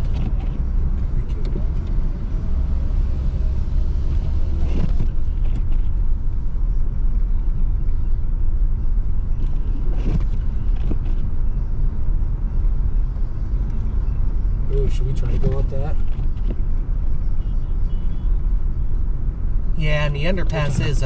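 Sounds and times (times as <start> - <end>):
vehicle rumble from cabin: 0.0 - 21.0.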